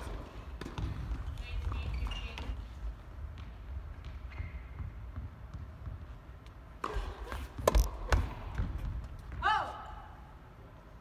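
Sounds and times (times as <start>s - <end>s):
low rumble of indoor hall: 0.0s - 11.0s.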